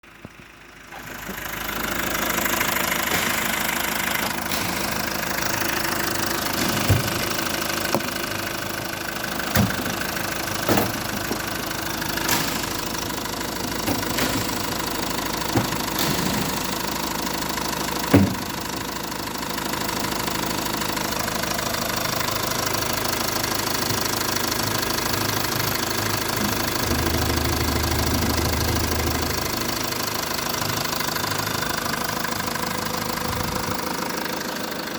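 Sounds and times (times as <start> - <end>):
diesel engine starting and idling: 0.0 - 34.9.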